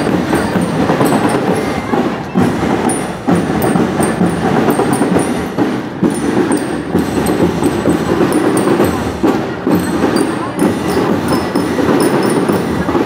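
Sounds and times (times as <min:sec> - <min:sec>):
high bell-lyre notes: 0:00.0 - 0:13.0
marching band drumming: 0:00.0 - 0:13.0.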